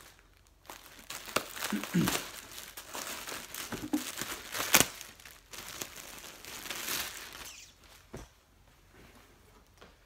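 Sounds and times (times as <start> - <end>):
plastic bag crinkling: 0.0 - 8.1
plastic crackle: 0.0 - 8.2.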